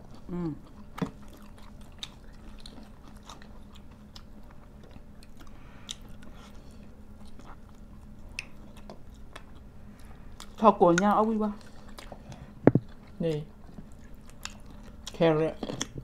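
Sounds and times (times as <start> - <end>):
faint low hum: 0.0 - 16.0
people chewing and eating: 0.0 - 16.0.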